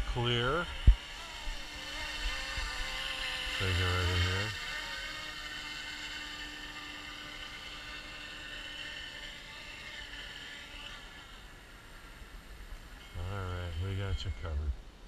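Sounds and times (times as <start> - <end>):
toy helicopter whirring: 0.0 - 14.6.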